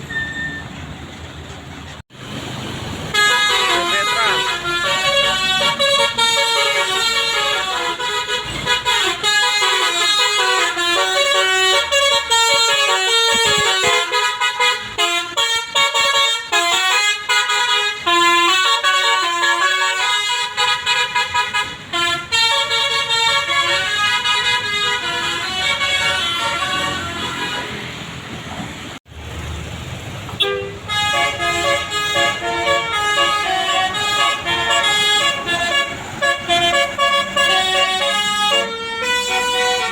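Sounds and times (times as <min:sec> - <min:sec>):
bus multi-tone horn melody: 0:03.0 - 0:28.3, 0:30.4 - 0:39.9.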